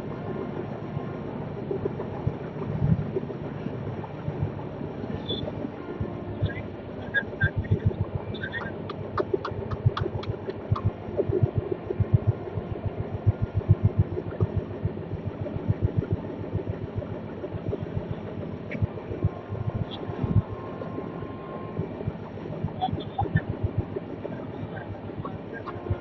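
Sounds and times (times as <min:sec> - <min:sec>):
train coach rumbling on track: 0:00.0 - 0:26.0.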